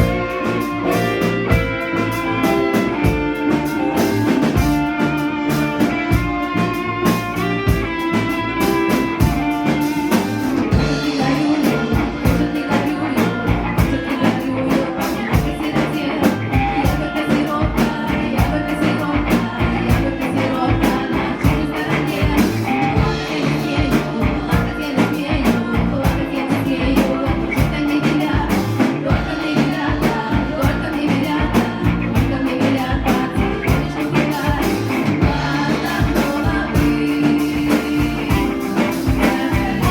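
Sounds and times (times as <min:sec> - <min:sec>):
drum kit beat: 0:00.0 - 0:39.9
folk-rock band playing: 0:00.0 - 0:39.9.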